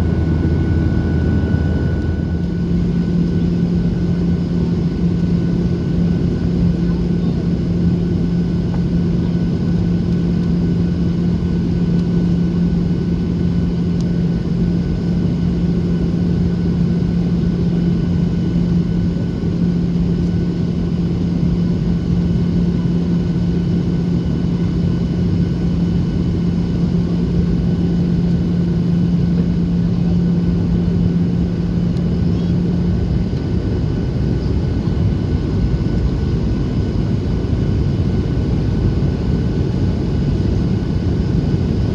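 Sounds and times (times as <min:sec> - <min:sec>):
jet engines: 0:00.0 - 0:41.9.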